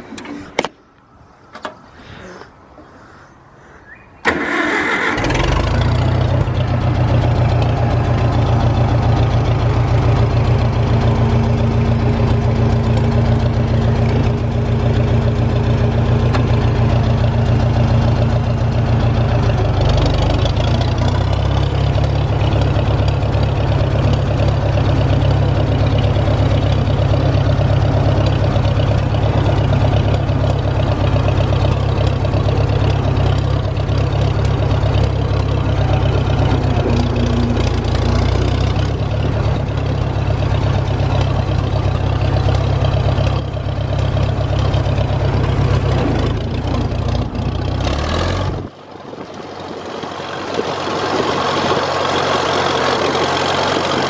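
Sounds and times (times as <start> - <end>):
tractor engine cranking: 0.0 - 0.7, 1.5 - 2.5, 4.2 - 54.0
tractor engine running: 4.2 - 54.0.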